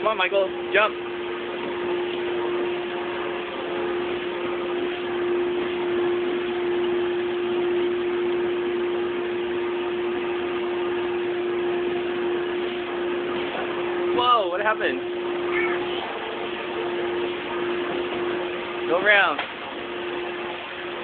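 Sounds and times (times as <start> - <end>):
electric blower hum: 0.0 - 21.0.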